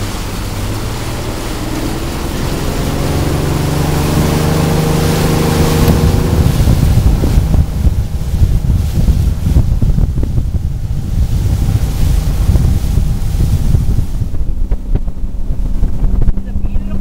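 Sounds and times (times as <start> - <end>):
motorboat engine speeding up: 0.0 - 17.0
wind buffeting microphone: 0.0 - 17.0.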